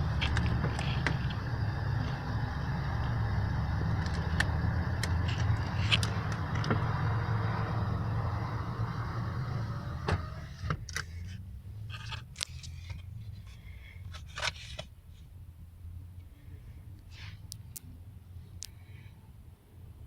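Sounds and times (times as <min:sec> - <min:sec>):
vehicle engine humming: 0:00.0 - 0:18.6.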